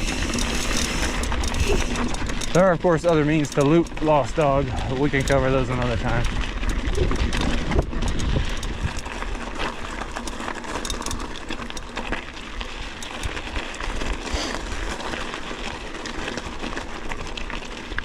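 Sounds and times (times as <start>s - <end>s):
bike rattling: 0.0s - 18.0s
tyres crunching on gravel: 0.0s - 18.0s.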